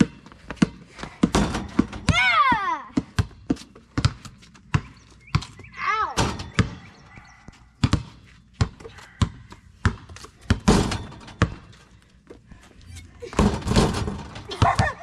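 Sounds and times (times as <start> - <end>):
basketballs bouncing on asphalt: 0.0 - 15.0.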